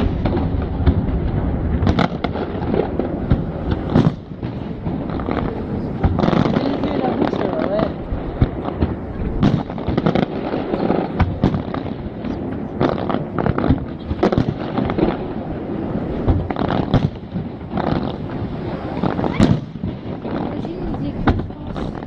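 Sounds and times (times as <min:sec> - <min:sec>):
continuous rumble: 0:00.0 - 0:22.0
fireworks bangs and crackles: 0:00.0 - 0:22.0.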